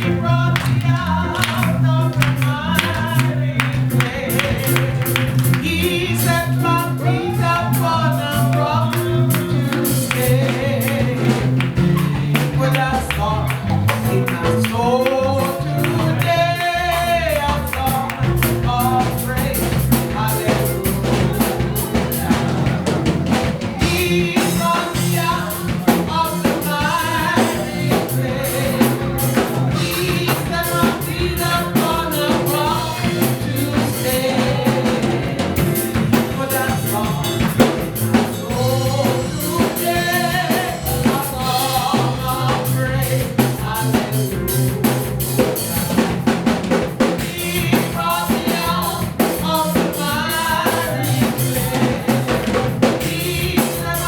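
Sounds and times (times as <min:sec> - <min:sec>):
band with drums and bass: 0:00.0 - 0:54.0
people singing: 0:00.0 - 0:54.0.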